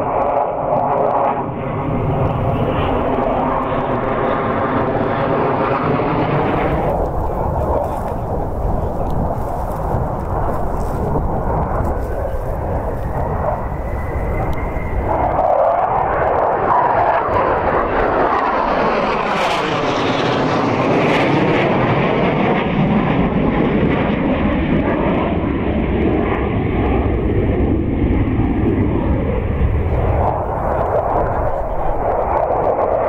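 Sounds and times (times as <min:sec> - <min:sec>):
jet fighters flying past: 0:00.0 - 0:33.0.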